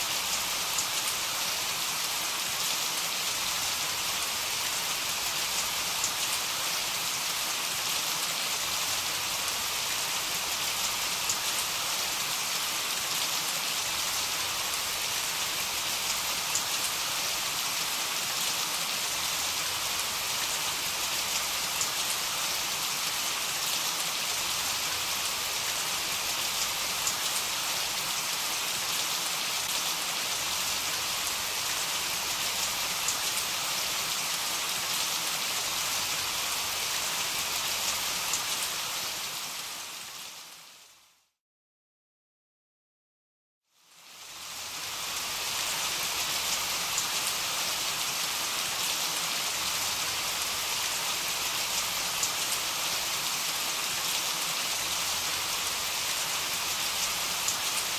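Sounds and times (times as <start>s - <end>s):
heavy rain falling: 0.0s - 40.7s, 44.2s - 57.9s.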